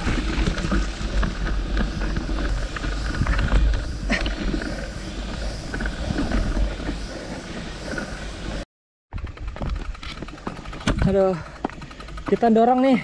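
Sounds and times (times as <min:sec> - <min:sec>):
bike clicking and rattling: 0:00.0 - 0:13.0.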